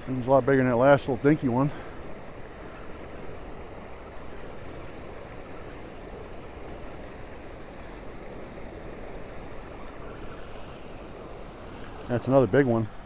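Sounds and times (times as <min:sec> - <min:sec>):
turbulent water churning: 0:00.0 - 0:13.0.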